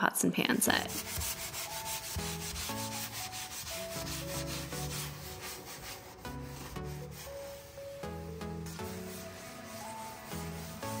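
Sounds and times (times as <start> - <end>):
sponge scouring steel sink: 0.7 - 11.0.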